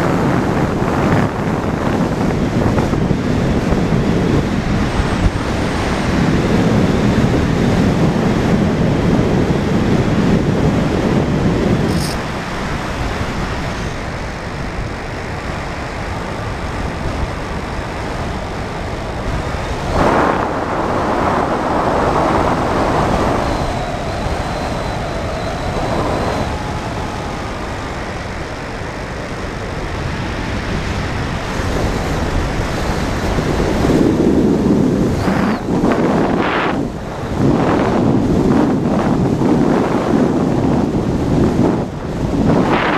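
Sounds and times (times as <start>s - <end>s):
airflow rushing over microphone: 0.0s - 42.9s
electric motor and propeller whining: 0.0s - 42.9s.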